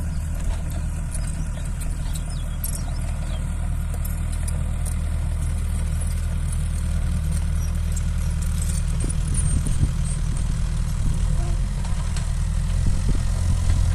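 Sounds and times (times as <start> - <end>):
diesel engine humming: 0.0 - 13.9.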